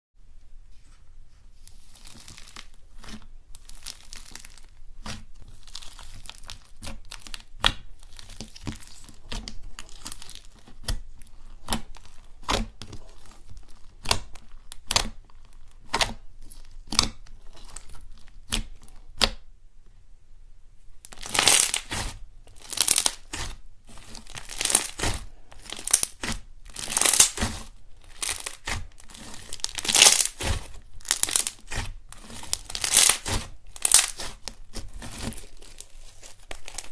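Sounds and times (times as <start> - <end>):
slime crackling and popping: 1.7 - 19.4, 21.0 - 36.9
sticky slime squeezing: 1.7 - 19.4, 21.0 - 36.9.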